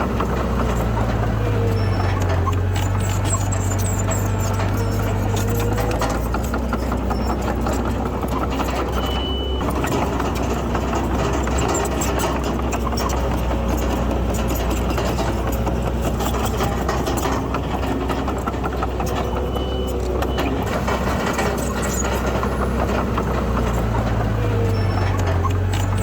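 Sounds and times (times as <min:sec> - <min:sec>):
diesel engine running: 0:00.0 - 0:26.0
mechanical clatter: 0:00.0 - 0:26.0.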